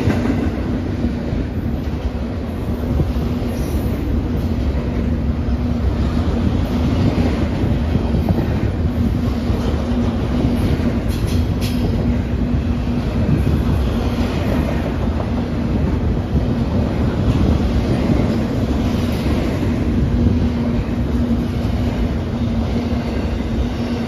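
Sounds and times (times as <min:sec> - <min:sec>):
freight cars rolling on rails: 0:00.0 - 0:24.0.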